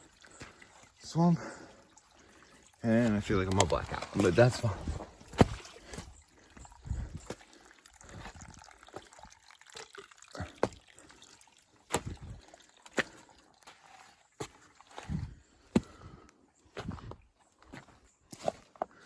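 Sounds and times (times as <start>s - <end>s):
footsteps on wet forest ground: 0.0s - 9.4s, 11.8s - 19.0s.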